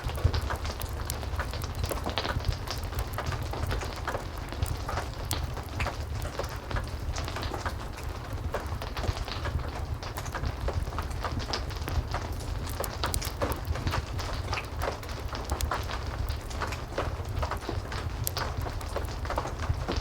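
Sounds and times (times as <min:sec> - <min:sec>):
heavy rain falling: 0:00.0 - 0:20.0
wood fire crackling: 0:00.0 - 0:20.0.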